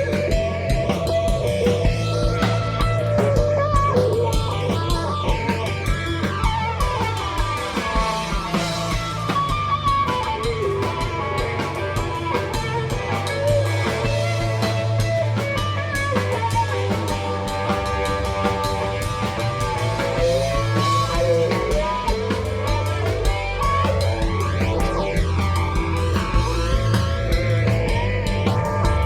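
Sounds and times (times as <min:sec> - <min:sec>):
bass: 0:00.0 - 0:29.0
drum kit with cymbals: 0:00.0 - 0:29.0
electric guitar lines: 0:00.0 - 0:29.0.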